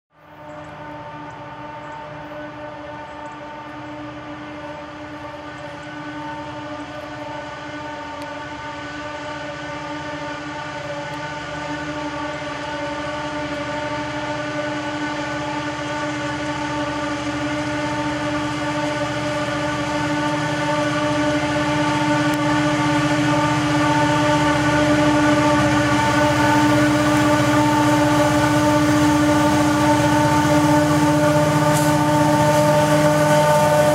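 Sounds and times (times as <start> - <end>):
high whine: 0.1 - 33.9
locomotive engine drone: 0.1 - 33.9.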